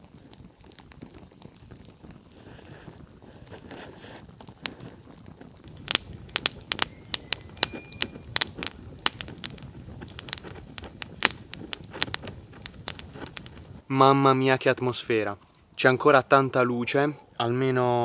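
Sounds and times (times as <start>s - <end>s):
campfire crackling and popping: 0.0s - 16.8s.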